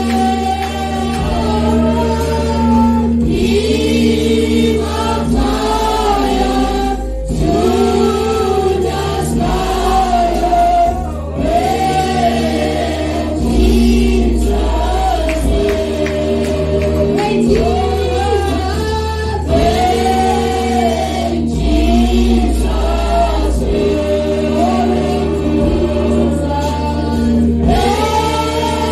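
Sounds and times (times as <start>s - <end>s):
choir singing gospel: 0.0s - 28.9s
sustained low bass notes: 0.0s - 28.9s.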